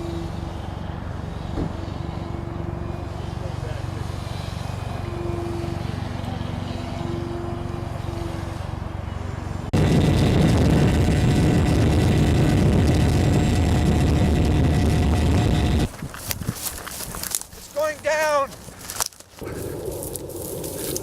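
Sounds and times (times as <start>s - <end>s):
model airplane motor and propeller: 0.0s - 9.0s, 9.8s - 21.0s
faint steady whine: 0.0s - 21.0s.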